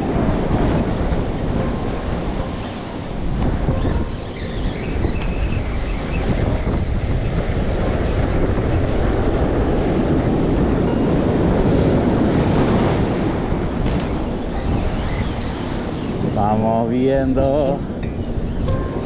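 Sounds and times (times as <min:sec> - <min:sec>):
ocean surf on rocky shore: 0:00.0 - 0:19.0
wind buffeting microphone: 0:00.0 - 0:19.0.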